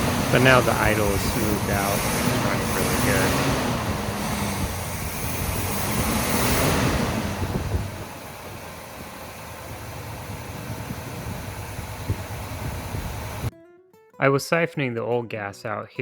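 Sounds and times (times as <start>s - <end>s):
car engine idling: 0.0s - 13.5s.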